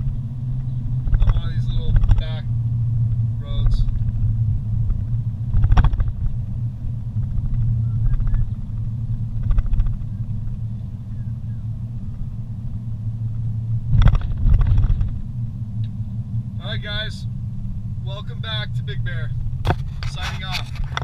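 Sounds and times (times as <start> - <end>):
car rumble from inside cabin: 0.0 - 21.0.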